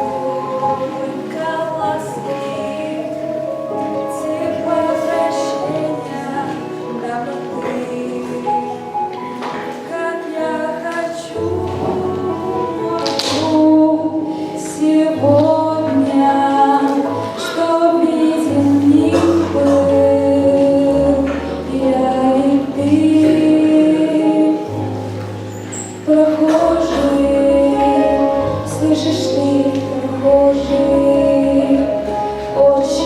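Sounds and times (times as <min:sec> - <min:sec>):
woman singing: 0:00.0 - 0:25.0, 0:26.0 - 0:33.0
musical accompaniment with bass line: 0:00.0 - 0:33.0.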